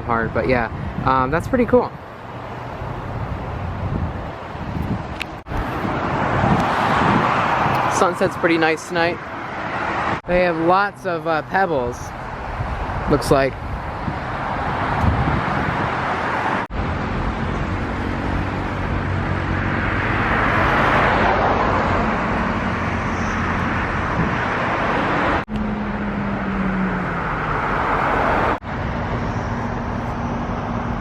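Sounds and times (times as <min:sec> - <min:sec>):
road traffic noise: 0:00.0 - 0:31.0
vehicle passing: 0:00.6 - 0:31.0.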